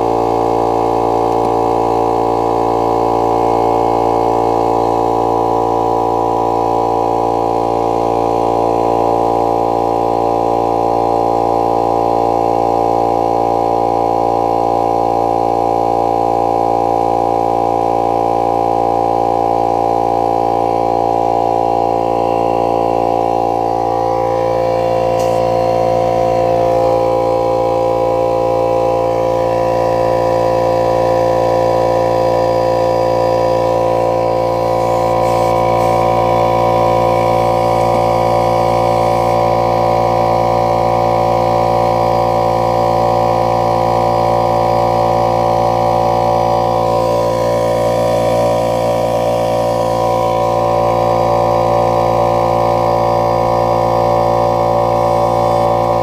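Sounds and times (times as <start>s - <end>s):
air compressor running: 0.0s - 56.0s.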